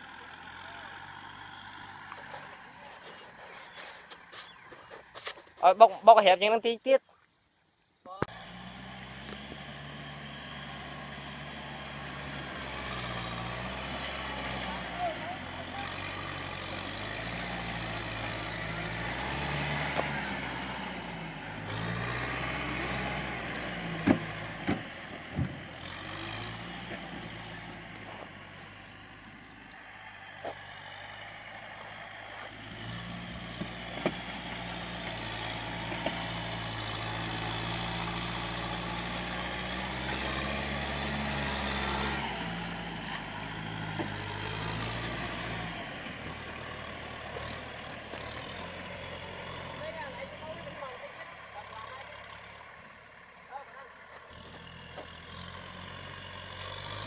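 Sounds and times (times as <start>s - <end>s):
tractor diesel engine under load: 0.0s - 6.3s, 8.2s - 57.0s.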